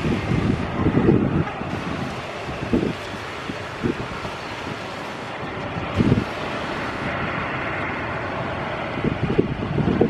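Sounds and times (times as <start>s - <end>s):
jet engines roaring: 0.0s - 10.0s
wind buffeting microphone: 0.0s - 10.0s.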